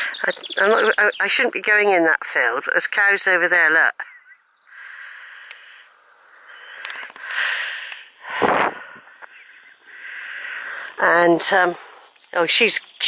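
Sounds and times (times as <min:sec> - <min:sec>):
open country background hiss: 0:00.0 - 0:13.0.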